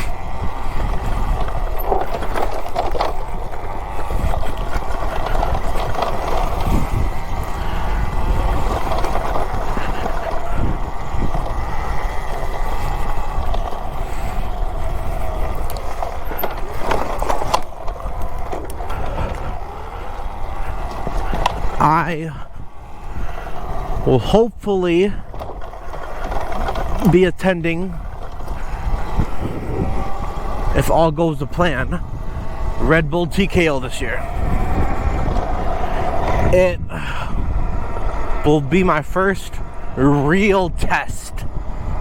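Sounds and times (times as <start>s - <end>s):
wind rushing: 0.0s - 38.7s
drivetrain whir: 0.0s - 42.0s
tyre noise: 0.0s - 42.0s.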